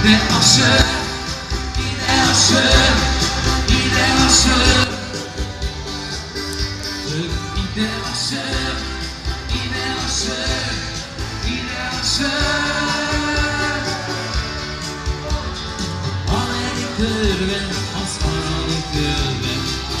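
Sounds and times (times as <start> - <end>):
person singing: 0.0 - 5.6, 7.0 - 20.0
live band playing dance music: 0.0 - 20.0.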